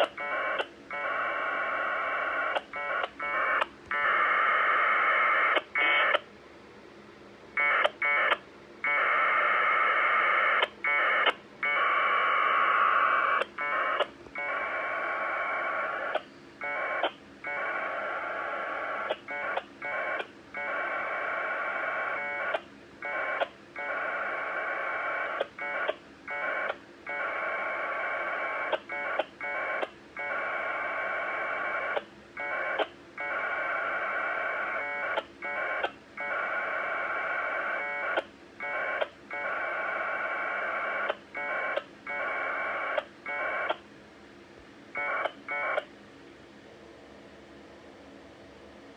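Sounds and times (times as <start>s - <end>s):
packet data tones over radio: 0.0s - 6.3s, 7.6s - 43.8s, 44.9s - 45.9s.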